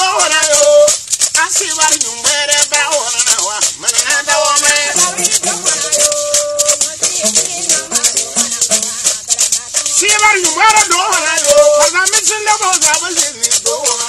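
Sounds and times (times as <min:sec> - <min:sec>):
gourd rattles shaking: 0:00.0 - 0:14.0
men singing: 0:00.0 - 0:14.0.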